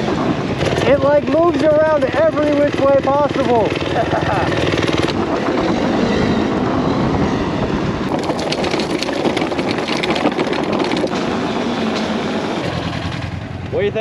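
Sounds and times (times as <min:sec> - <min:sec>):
clattering and rattling over bumps: 0:00.0 - 0:07.0, 0:08.1 - 0:14.0
electric dirt bike riding noise: 0:00.0 - 0:14.0.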